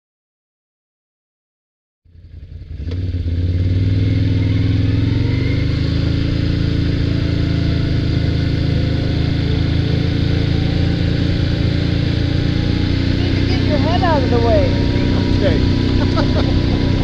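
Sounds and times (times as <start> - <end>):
atv engine running: 2.1 - 17.0.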